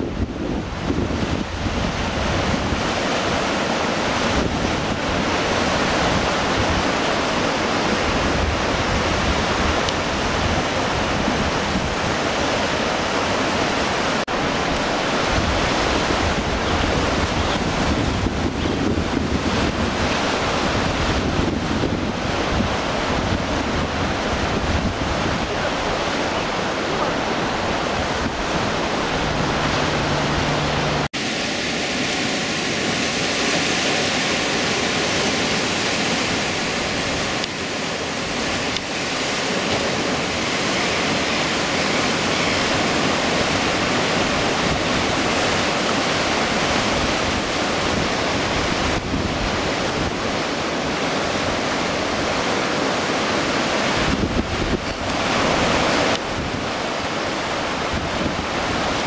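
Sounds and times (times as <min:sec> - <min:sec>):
surf breaking on rocky shore: 0:00.0 - 0:59.0
wind gusting on microphone: 0:00.0 - 0:59.0.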